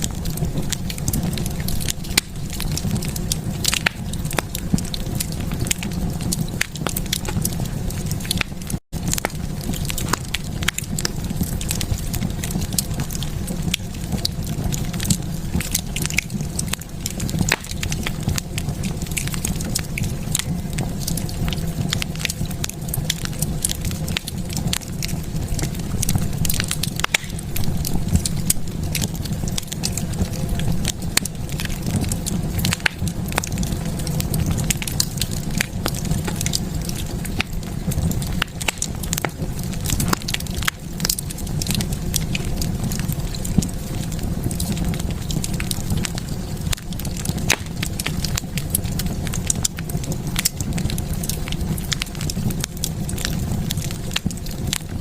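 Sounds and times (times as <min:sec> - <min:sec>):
sharp pops and snaps of fire: 0:00.0 - 0:55.0
wood fire crackling: 0:00.0 - 0:55.0.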